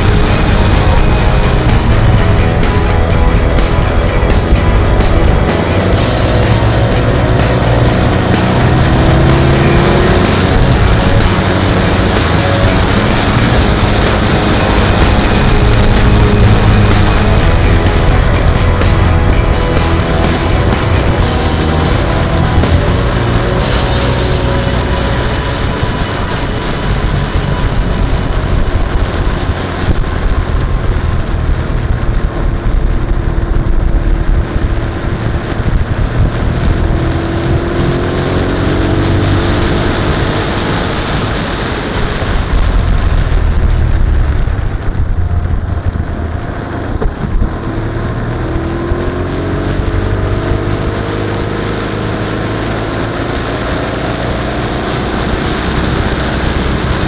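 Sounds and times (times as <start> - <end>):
motorcycle engine: 0.0 - 57.0
wind rushing on microphone: 0.0 - 57.0.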